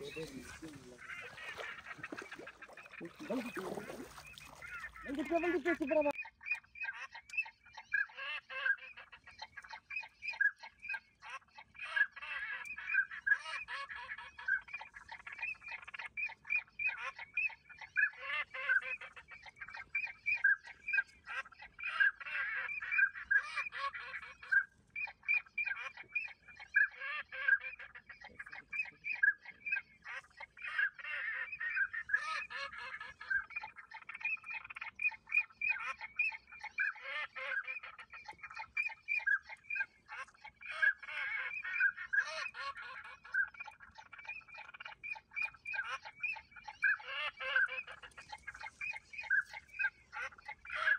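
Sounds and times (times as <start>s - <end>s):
ducks quacking: 0.0s - 50.9s.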